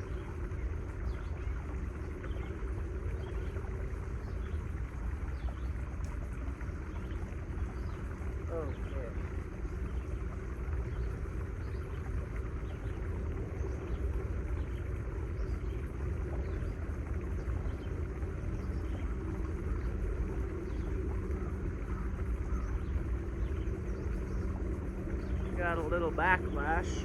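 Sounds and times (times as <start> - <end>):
faint even hum: 0.0 - 27.0
steady low rumble: 0.0 - 27.0.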